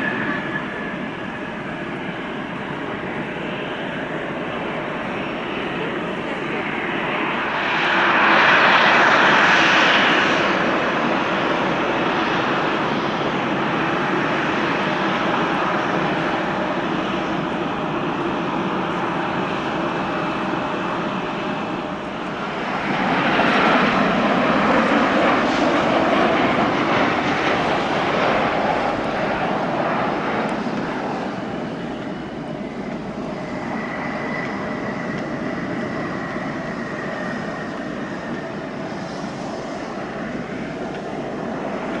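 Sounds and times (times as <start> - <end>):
jet airliner engine noise: 0.0 - 42.0.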